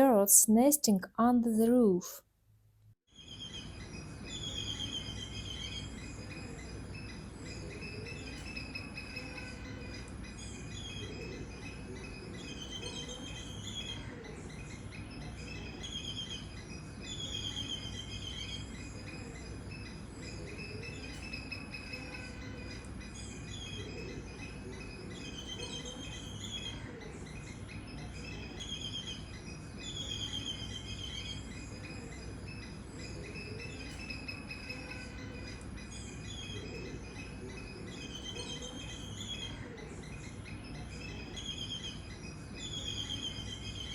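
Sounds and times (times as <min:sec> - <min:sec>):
birds chirping: 0:03.3 - 0:43.9.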